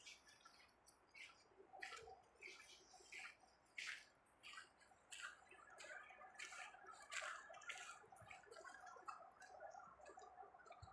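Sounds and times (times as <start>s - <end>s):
footsteps crunching on snowy dirt: 0.0s - 9.8s.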